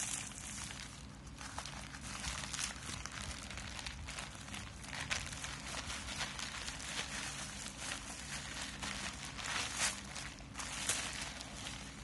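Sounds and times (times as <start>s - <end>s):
plastic mailer and bubble wrap crinkling: 0.0s - 12.0s
steady low hum: 0.0s - 12.0s.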